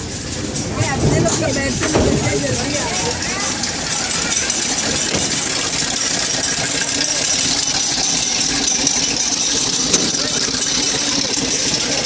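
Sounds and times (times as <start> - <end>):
toy train engine humming: 0.0 - 12.0.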